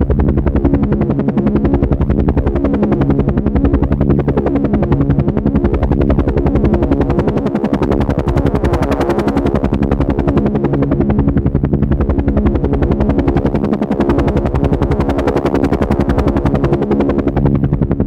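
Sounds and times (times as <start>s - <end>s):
helicopter engine drone: 0.0s - 18.0s
helicopter rotor chopping: 0.0s - 18.0s.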